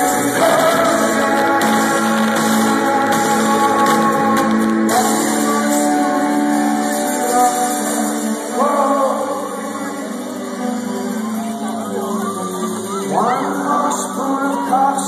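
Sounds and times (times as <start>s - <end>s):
live rock band playing chords: 0.0s - 15.0s
person singing: 0.0s - 15.0s.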